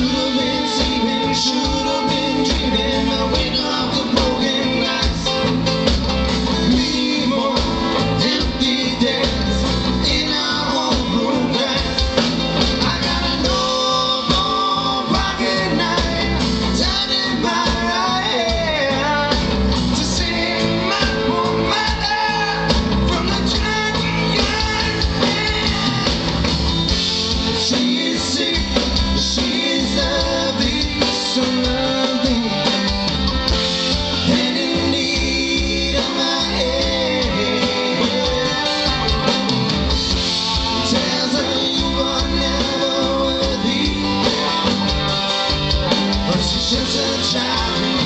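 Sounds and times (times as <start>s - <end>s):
drum kit: 0.0s - 48.0s
electric guitars: 0.0s - 48.0s.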